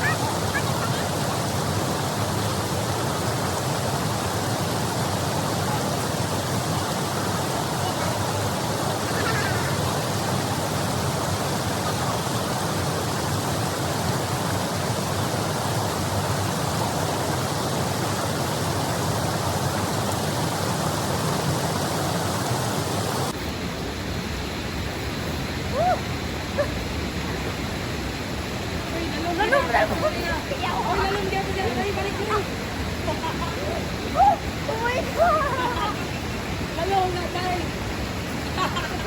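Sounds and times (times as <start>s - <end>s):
waterfall and river rushing: 0.0s - 39.0s.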